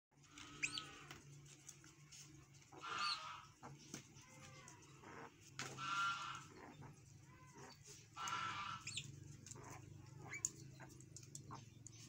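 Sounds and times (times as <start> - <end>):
mongooses squealing: 0.3 - 1.1, 2.7 - 12.0.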